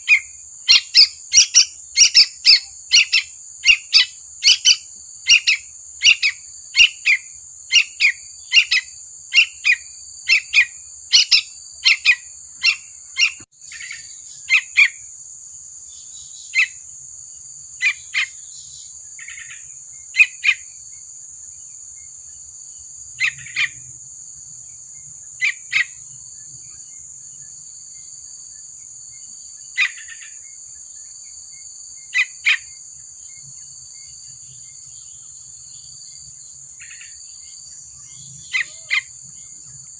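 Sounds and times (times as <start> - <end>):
bird chirping: 0.0 - 15.2, 15.8 - 39.9.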